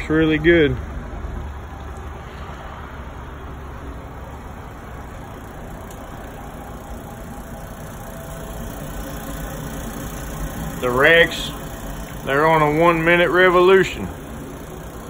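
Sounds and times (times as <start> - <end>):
smoker machinery running: 0.0 - 15.0.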